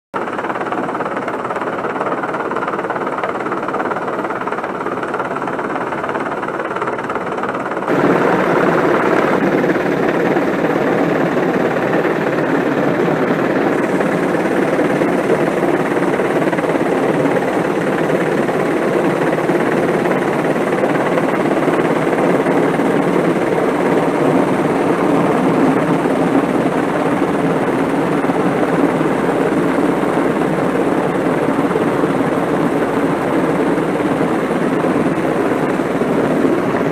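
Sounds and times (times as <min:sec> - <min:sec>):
helicopter rotors roaring: 0:00.2 - 0:36.9.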